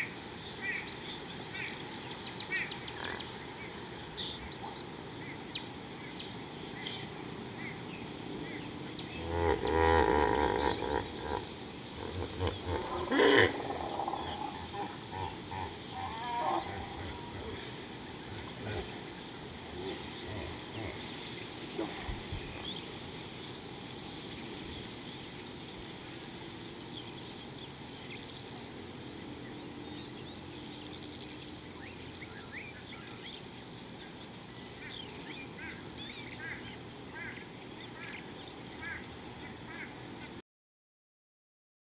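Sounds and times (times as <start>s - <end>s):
birds chirping: 0.0s - 40.4s
steady outdoor hiss: 0.0s - 40.4s.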